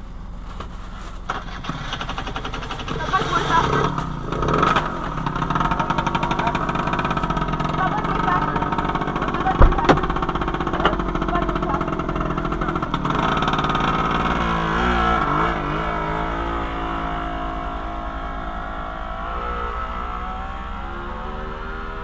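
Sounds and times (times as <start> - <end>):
small motorcycle engine revving: 1.3 - 22.0.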